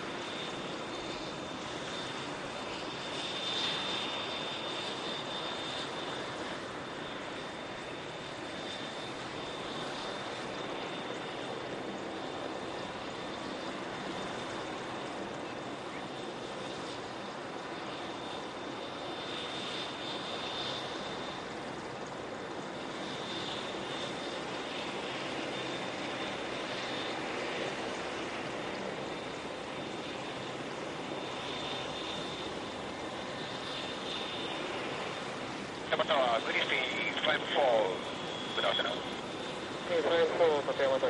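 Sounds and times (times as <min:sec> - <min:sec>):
helicopter engines and rotor: 0:00.0 - 0:41.0
high turbine whine: 0:00.0 - 0:41.0.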